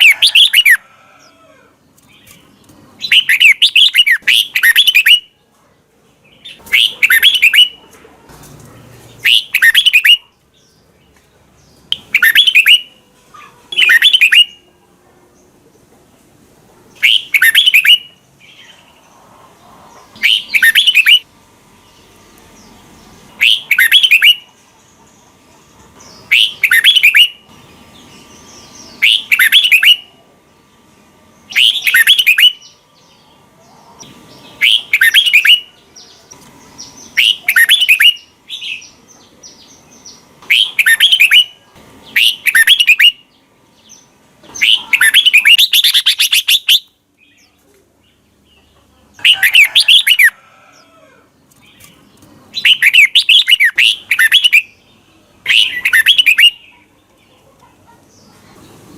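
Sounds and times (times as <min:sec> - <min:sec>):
bird singing bright phrases: 0:01.9 - 0:05.4, 0:06.0 - 0:07.9, 0:08.8 - 0:15.7, 0:16.8 - 0:19.1, 0:19.9 - 0:25.3, 0:26.0 - 0:50.3, 0:51.4 - 0:58.9.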